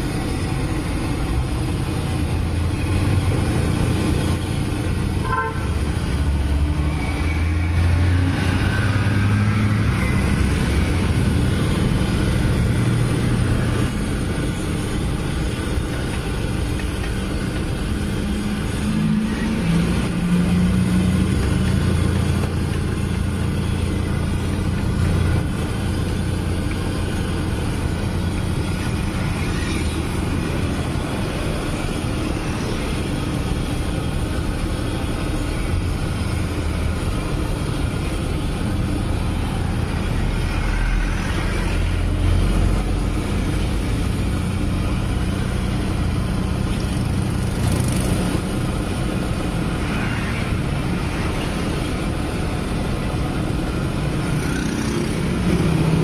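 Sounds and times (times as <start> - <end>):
low rumble of traffic: 0.0 - 56.0.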